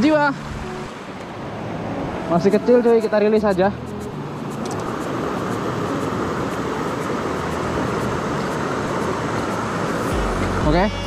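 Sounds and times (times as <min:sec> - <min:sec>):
river water rushing over rocks: 0:00.0 - 0:03.6, 0:04.2 - 0:10.8.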